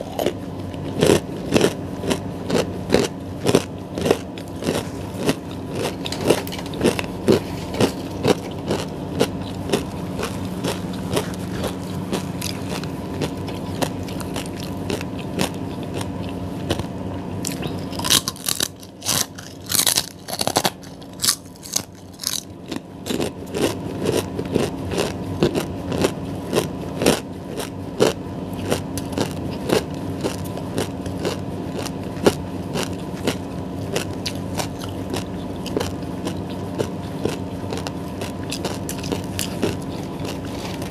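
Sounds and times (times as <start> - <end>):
faint steady hum: 0.0 - 40.9
person chewing food: 0.0 - 40.9.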